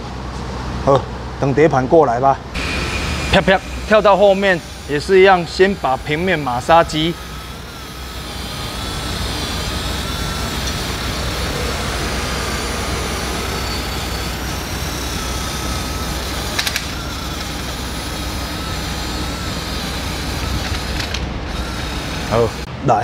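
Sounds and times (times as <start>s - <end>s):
power tool scrubbing metal: 2.6s - 22.7s.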